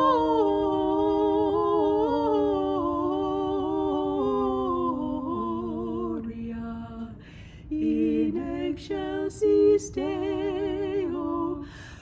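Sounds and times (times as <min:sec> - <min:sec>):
singers in harmony: 0:00.0 - 0:12.0.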